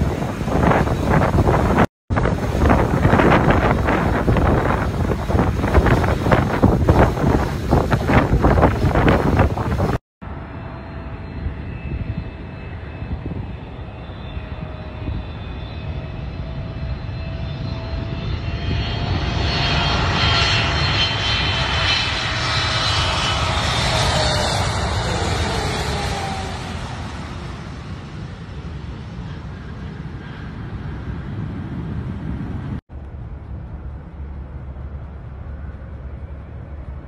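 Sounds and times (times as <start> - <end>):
jet airliner engines whine and rumble: 0.0 - 37.0.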